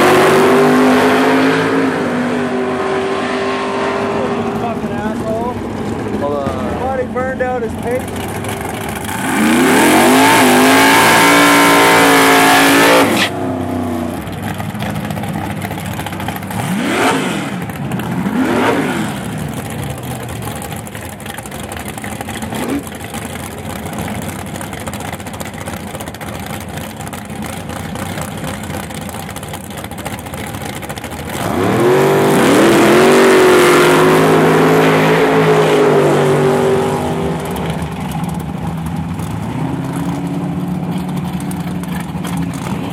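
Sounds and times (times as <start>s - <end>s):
drag car engine revving: 0.0s - 42.9s.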